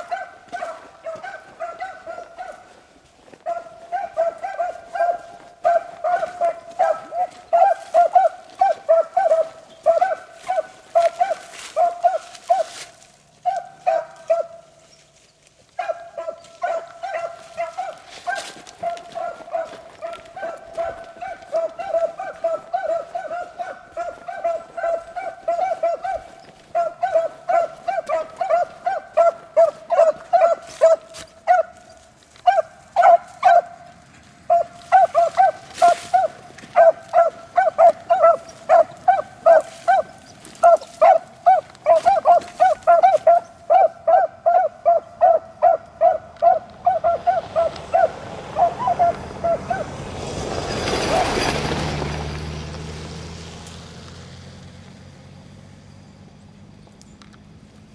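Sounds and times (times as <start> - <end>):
dogs baying: 0.0 - 54.8
vehicle approaching: 0.0 - 57.9.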